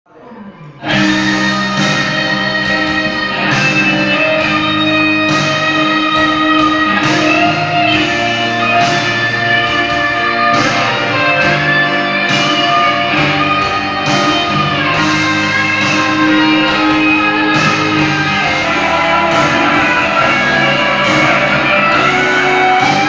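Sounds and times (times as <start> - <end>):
guitar chords: 0.2 - 23.0.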